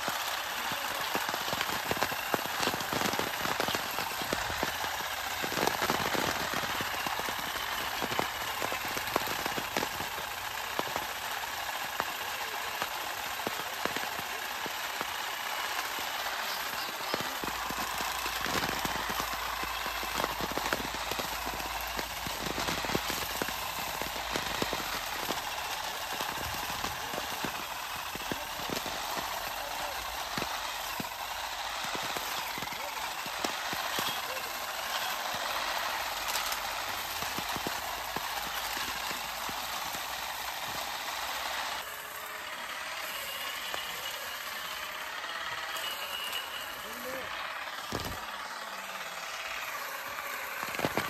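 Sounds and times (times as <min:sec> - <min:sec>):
motor humming: 0:00.0 - 0:51.0
olive harvester rattling buzz: 0:00.0 - 0:51.0
tines clicking through branches: 0:00.0 - 0:51.0.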